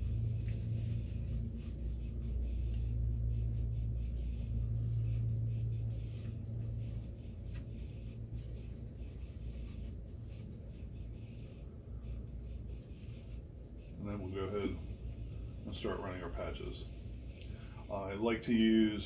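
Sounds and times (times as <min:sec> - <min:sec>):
paper towel wiping metal: 0:00.0 - 0:17.3
low hum: 0:00.0 - 0:19.0.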